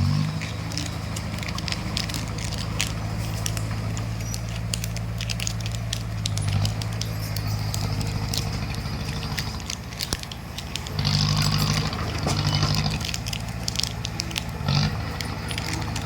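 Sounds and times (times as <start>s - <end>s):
bulldozer diesel engine running: 0.0s - 16.0s
sharp cracks and snaps: 0.0s - 16.0s.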